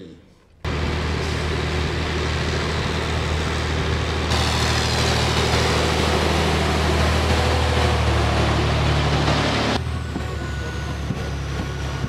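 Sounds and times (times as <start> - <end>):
heavy diesel truck engines droning: 0.7 - 12.0.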